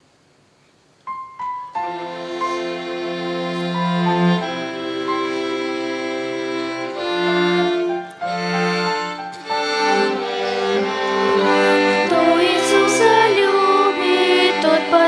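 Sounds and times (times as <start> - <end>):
violin ensemble playing slow melody: 1.8 - 15.0.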